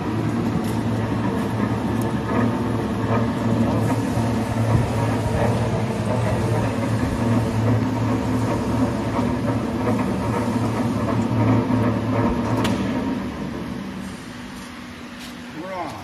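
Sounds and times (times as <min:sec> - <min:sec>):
machine roller drive humming: 0:00.0 - 0:16.0.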